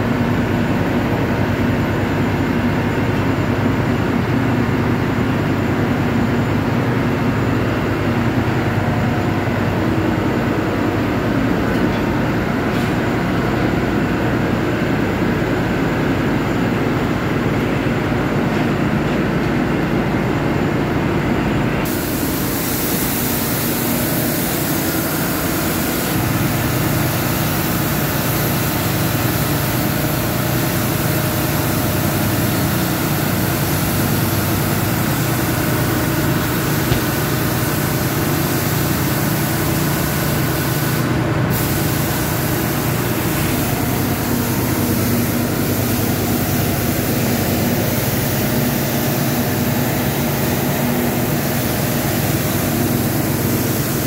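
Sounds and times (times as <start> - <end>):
heavy machinery running: 0.0 - 54.0.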